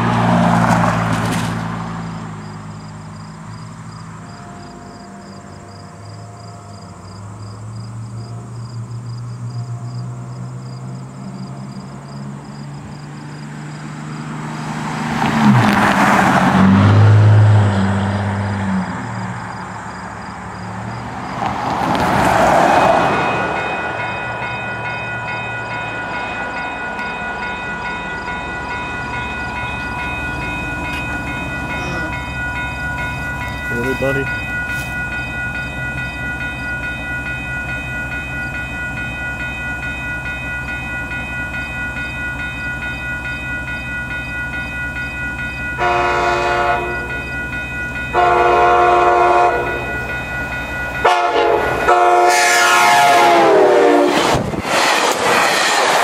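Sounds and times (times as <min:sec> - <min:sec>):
train rushing past: 0:00.0 - 0:56.0
crossing warning bell: 0:02.1 - 0:14.7, 0:18.7 - 0:54.6.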